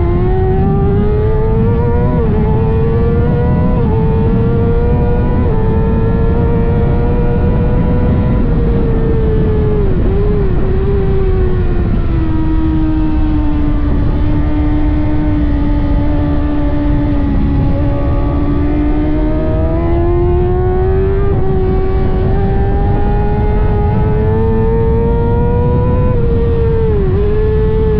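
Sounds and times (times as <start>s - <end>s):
heavy wind noise: 0.0s - 27.9s
motorcycle engine at high revs: 0.0s - 27.9s.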